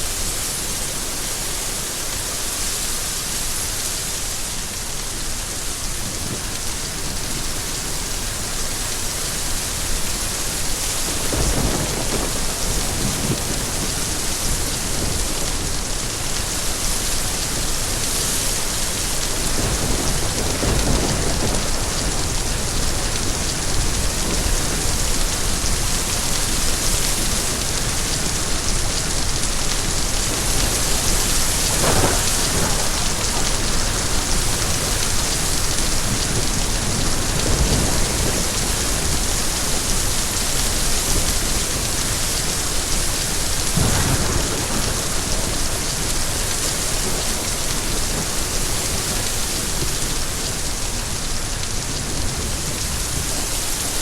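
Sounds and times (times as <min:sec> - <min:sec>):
dense rain falling: 0:00.0 - 0:54.0.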